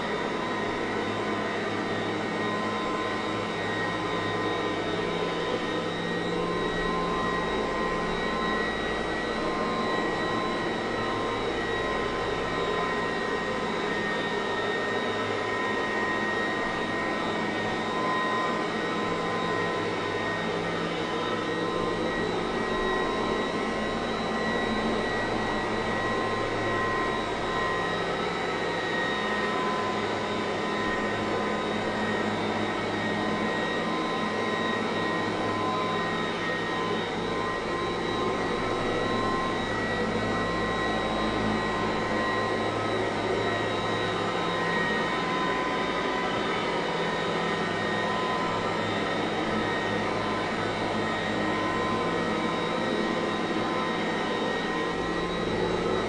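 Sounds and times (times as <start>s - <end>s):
vacuum cleaner running on carpet: 1.9s - 56.0s.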